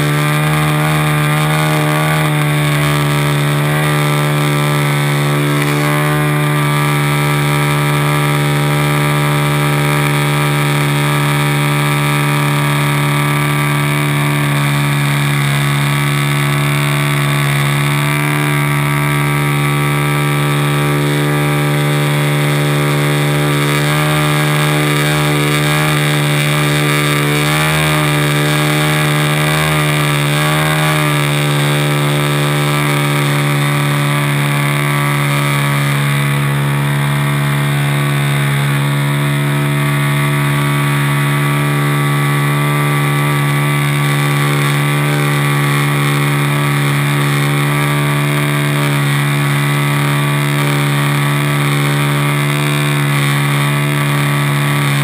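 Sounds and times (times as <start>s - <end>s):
model plane motor and propeller: 0.0s - 55.0s.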